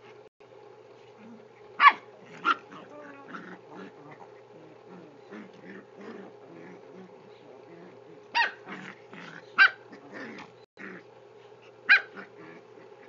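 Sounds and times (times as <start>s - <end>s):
dogs growling: 1.0s - 13.0s.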